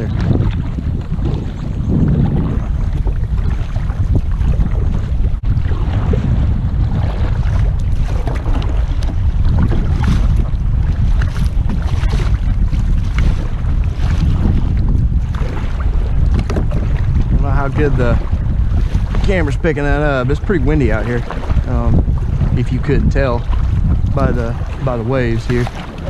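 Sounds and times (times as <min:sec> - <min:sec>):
river waves splashing: 0:00.0 - 0:26.0
wind buffeting microphone: 0:00.0 - 0:26.0.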